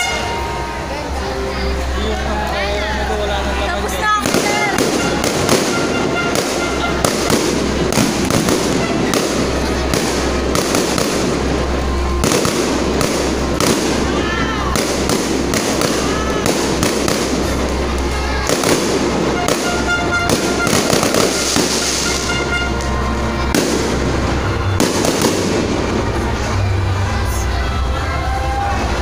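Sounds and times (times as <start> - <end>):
fireworks bursting with crackling: 3.8 - 27.1.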